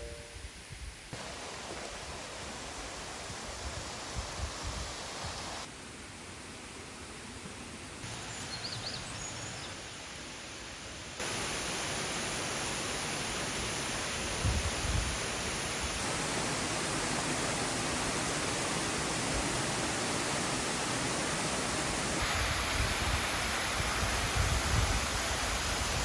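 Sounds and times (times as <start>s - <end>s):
waterfall rushing water: 1.2s - 5.7s, 8.0s - 26.0s.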